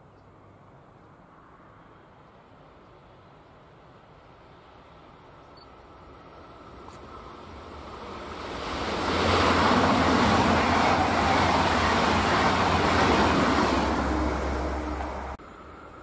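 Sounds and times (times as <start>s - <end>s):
high-speed train rushing past: 0.6s - 16.0s.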